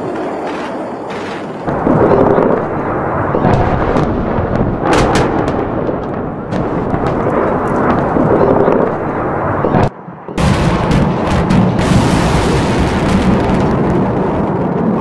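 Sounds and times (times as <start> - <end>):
heavy rumble of explosions: 0.0 - 15.0.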